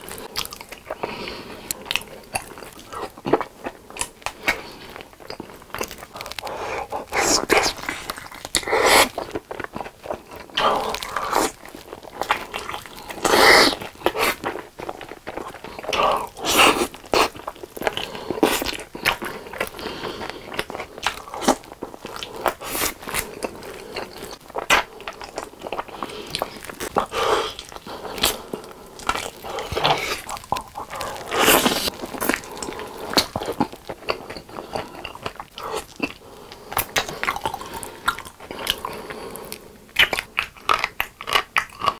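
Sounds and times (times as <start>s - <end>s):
chewing fried chicken: 0.0s - 41.9s
wet mouth sounds: 0.0s - 41.9s.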